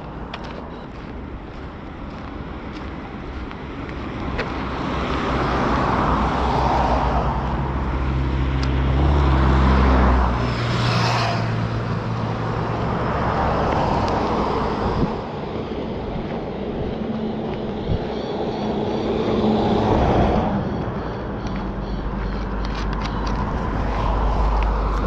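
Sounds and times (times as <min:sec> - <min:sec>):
road traffic: 0:00.0 - 0:25.0
vehicle passing by: 0:04.4 - 0:25.0.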